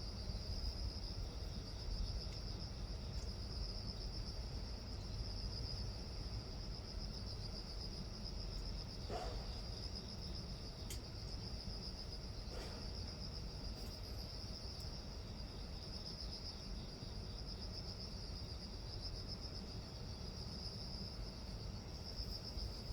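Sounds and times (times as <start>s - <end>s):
insects pulsing trill: 0.0s - 22.9s.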